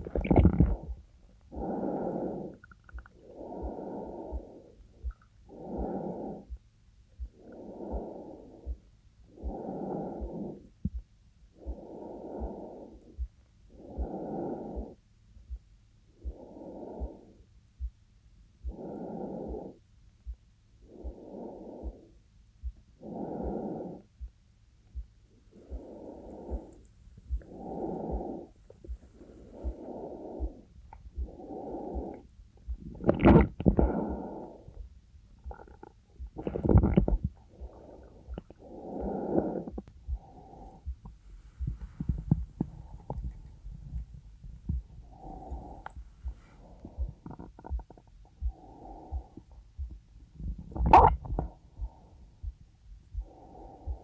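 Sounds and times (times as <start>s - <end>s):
low heartbeat thumps: 0.0s - 1.7s, 2.9s - 9.6s, 10.2s - 14.2s, 14.8s - 17.2s, 17.8s - 18.8s, 19.4s - 23.6s, 24.2s - 54.0s
woman breathing slowly: 0.6s - 18.0s, 18.6s - 24.3s, 24.9s - 33.0s, 33.7s - 54.0s.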